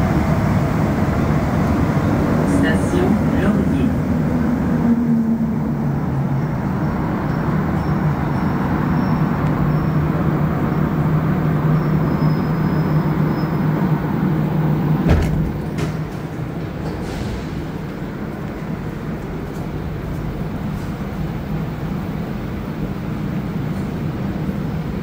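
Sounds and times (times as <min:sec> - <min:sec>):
train rumbling through tunnel: 0:00.0 - 0:25.0.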